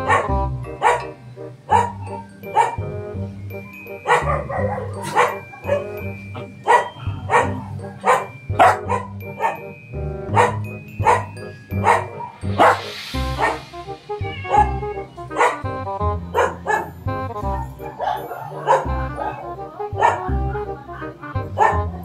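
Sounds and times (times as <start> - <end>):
dog barking: 0.0 - 2.8, 4.0 - 9.7, 10.3 - 13.7, 14.5 - 15.7, 16.3 - 22.0
background music: 0.0 - 22.0.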